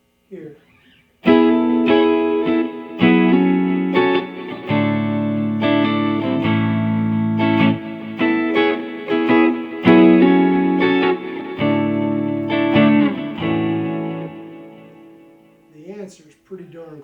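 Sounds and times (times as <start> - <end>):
electric guitar chords: 0.6 - 15.7.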